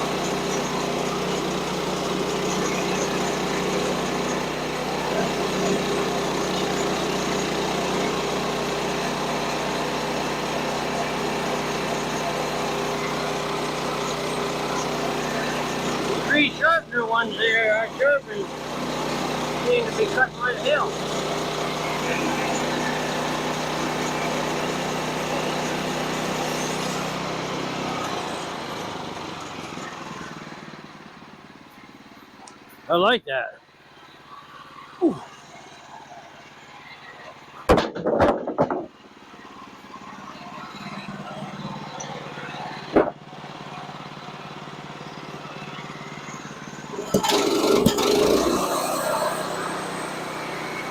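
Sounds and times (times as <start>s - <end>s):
mill winding down: 0.0s - 33.1s, 39.1s - 50.9s
small gasoline engine running: 0.0s - 37.8s, 38.5s - 50.9s.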